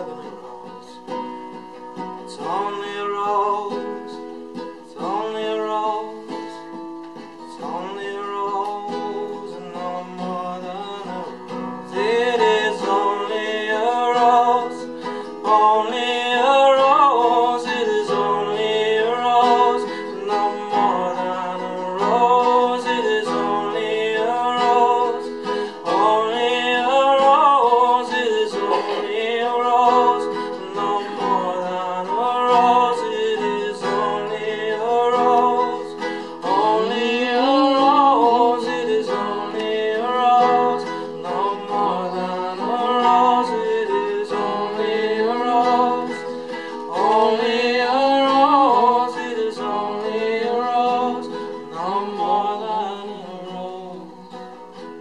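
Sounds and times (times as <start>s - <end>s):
classical guitar: 0.0s - 55.0s
man singing folk song: 0.0s - 55.0s.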